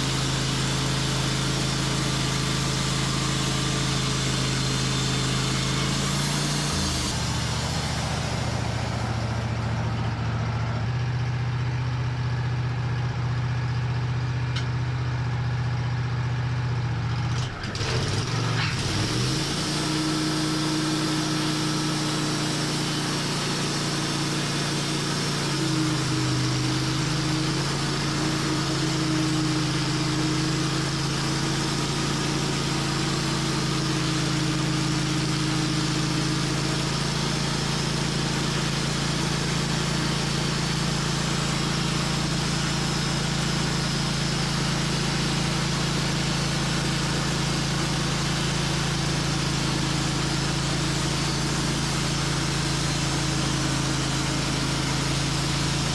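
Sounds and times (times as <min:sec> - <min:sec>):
saw cutting through log: 0:00.0 - 0:09.8, 0:17.4 - 0:55.9
sawmill engine running: 0:00.0 - 0:55.9.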